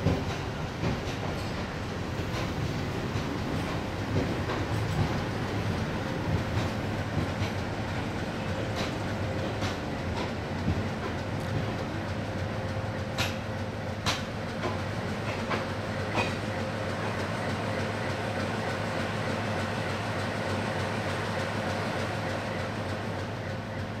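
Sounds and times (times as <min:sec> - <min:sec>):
train rumble: 0:00.0 - 0:24.0
train wheels clacking over rail joints: 0:00.0 - 0:24.0.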